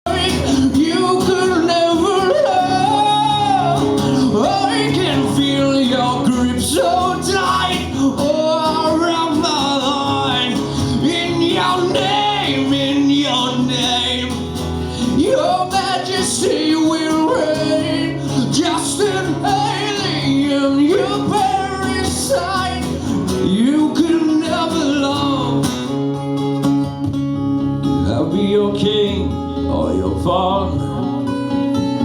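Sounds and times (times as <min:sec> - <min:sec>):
man singing: 0:00.0 - 0:26.0, 0:27.9 - 0:31.6
guitar chords: 0:00.0 - 0:32.0
live band playing: 0:00.1 - 0:32.0.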